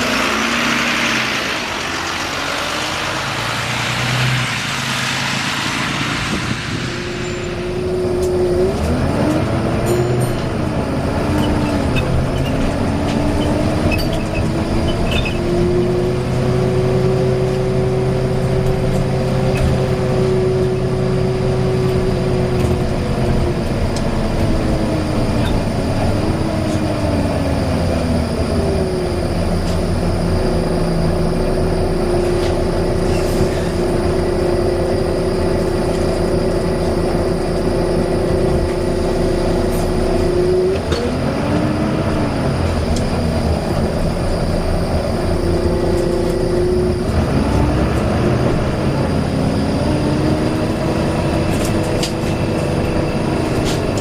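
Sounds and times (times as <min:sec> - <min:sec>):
bus whining: 0:00.0 - 0:54.0
engine rumble: 0:00.0 - 0:54.0.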